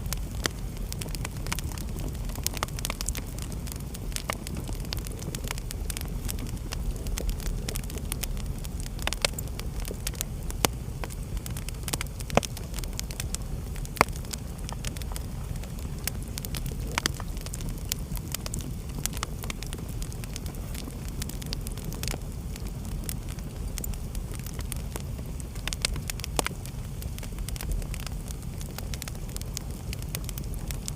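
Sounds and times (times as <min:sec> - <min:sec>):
fire crackling and popping: 0:00.0 - 0:30.9
fire rumbling: 0:00.0 - 0:30.9.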